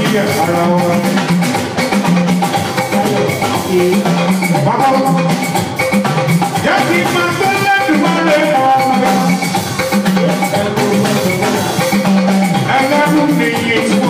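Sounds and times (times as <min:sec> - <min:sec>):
band music with drum groove: 0:00.0 - 0:14.0.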